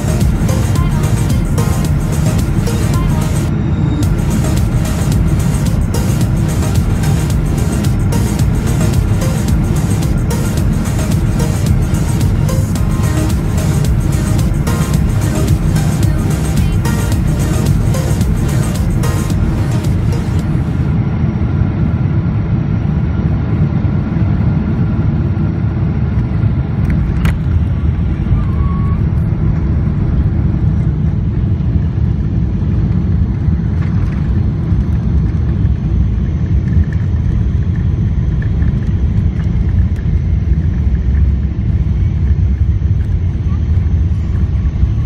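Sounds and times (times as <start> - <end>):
aircraft cabin rumble: 0.0 - 45.0.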